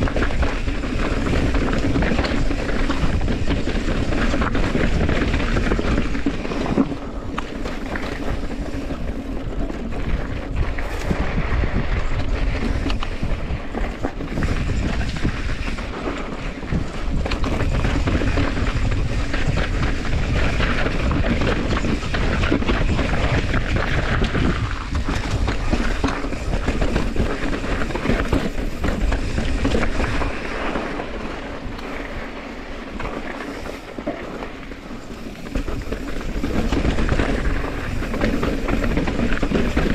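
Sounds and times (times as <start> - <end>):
bike rattling over bumps: 0.0 - 39.9
wind rumbling on microphone: 0.0 - 39.9.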